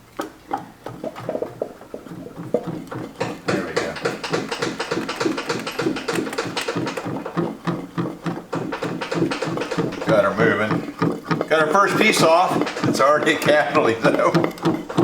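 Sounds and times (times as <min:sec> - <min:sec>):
metal tapping and clicking: 0:02.4 - 0:15.0.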